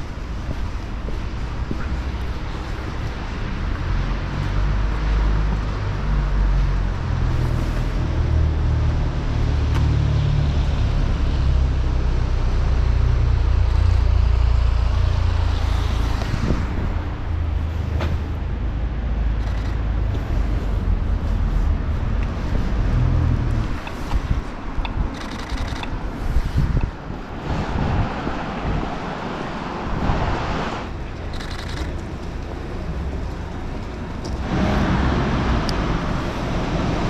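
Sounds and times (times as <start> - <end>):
vehicles passing: 0.0 - 37.0.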